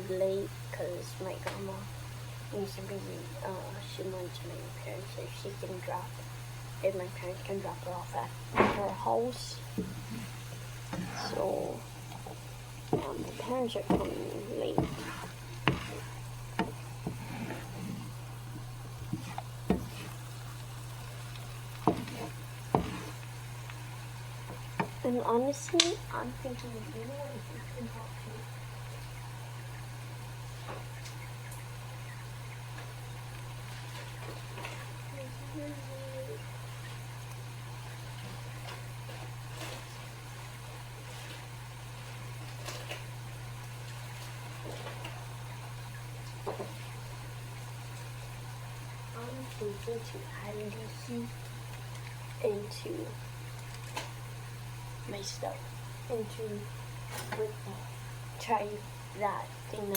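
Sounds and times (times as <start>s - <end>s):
food sizzling in a pan: 0.0s - 59.9s
low steady hum: 0.0s - 59.9s.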